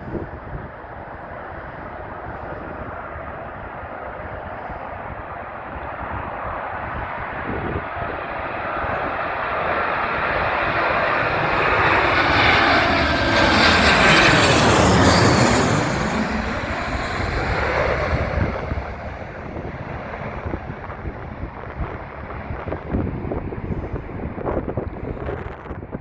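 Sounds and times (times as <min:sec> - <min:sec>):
airliner engine noise passing overhead: 0:00.0 - 0:26.0
wind buffeting microphone: 0:00.0 - 0:26.0.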